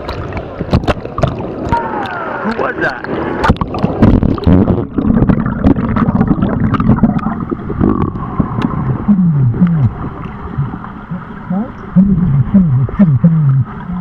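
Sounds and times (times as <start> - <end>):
muffled underwater rumble: 0.0 - 14.0
pool water sloshing: 0.0 - 14.0.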